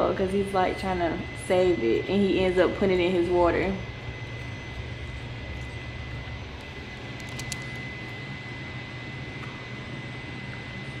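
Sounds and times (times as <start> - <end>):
mechanical drone with high whine: 0.0 - 11.0.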